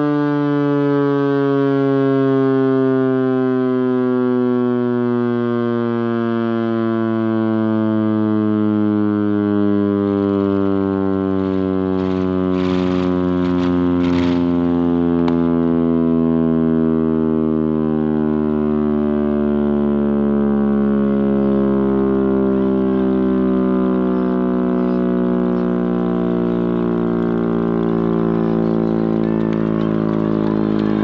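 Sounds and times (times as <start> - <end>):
air raid siren low tone: 0.0 - 31.0.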